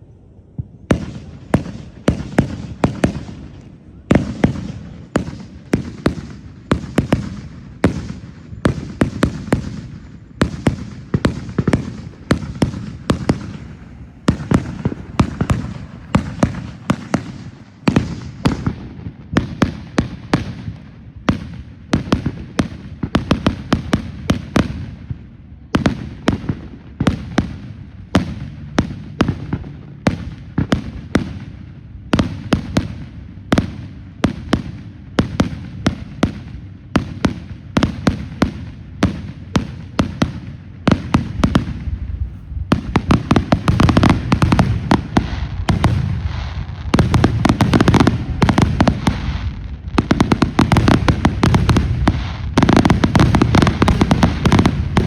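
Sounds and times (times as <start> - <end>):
fireworks banging: 0.5 - 55.0.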